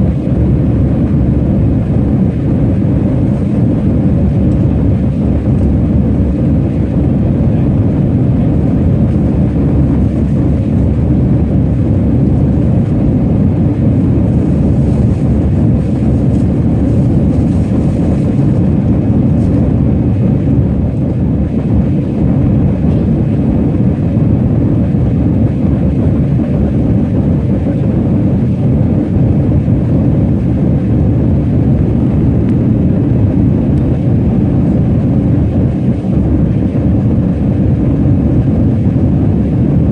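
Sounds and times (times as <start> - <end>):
jet airliner rumble: 0.0 - 39.9.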